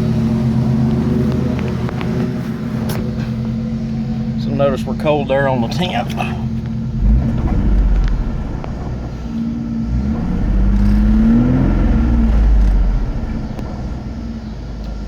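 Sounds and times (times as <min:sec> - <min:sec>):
car engine revving from idle: 0:00.0 - 0:15.0.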